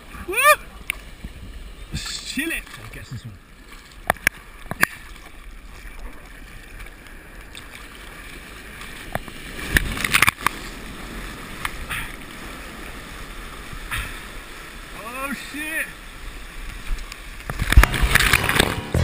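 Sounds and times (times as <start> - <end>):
seawater rushing and sloshing: 0.0 - 19.0
sharp water splashes: 0.0 - 19.0.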